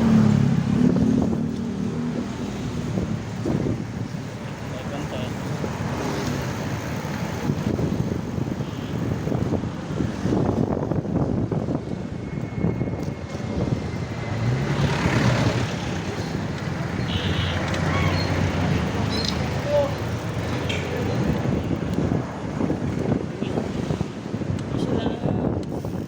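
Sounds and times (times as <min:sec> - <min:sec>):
road traffic noise: 0:00.0 - 0:26.0
wind rumbling on microphone: 0:00.0 - 0:26.0.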